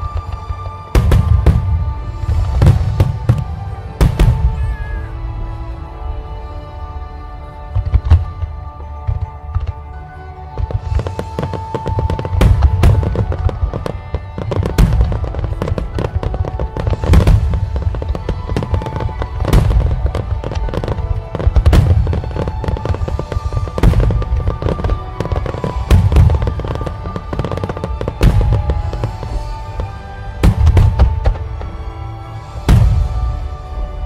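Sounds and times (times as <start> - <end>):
dense crackling of fireworks: 0.0 - 34.0
music playing: 0.0 - 34.0.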